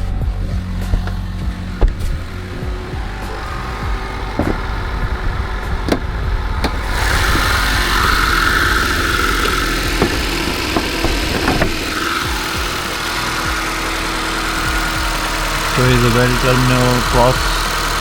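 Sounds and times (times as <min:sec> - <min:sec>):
car engine idling: 0:00.0 - 0:18.0
whine: 0:00.0 - 0:18.0.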